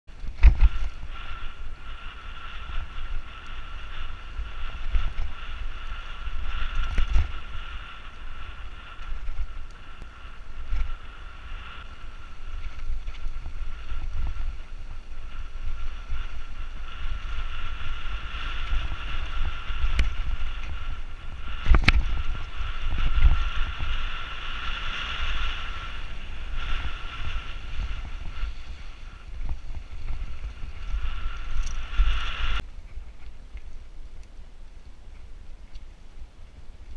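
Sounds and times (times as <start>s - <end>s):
bike tyre rumble: 0.0s - 36.9s
wind on microphone: 0.1s - 36.9s.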